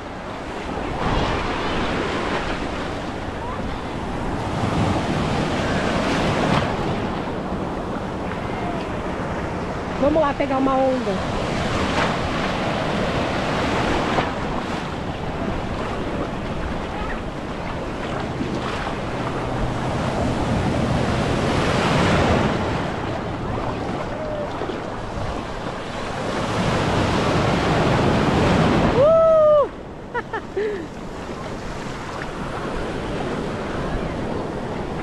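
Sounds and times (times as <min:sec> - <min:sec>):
sea waves surging: 0:00.0 - 0:35.0
wind on microphone: 0:00.0 - 0:35.0.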